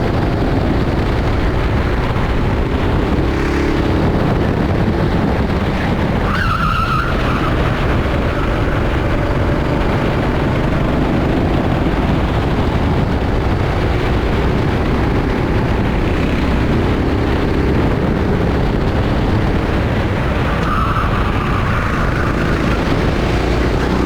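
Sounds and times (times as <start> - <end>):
dense rushing noise: 0.0 - 24.0
kart engine running: 0.0 - 24.0.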